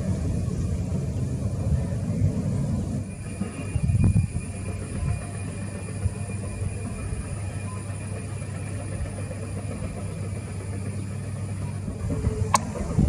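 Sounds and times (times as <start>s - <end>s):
distant jet engines rumbling: 0.0s - 13.0s
faint high engine whine: 0.0s - 13.0s.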